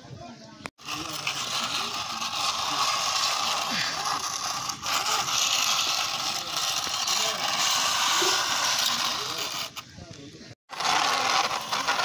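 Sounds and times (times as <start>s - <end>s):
toy excavator rattling on concrete: 0.8s - 9.9s, 10.6s - 12.0s.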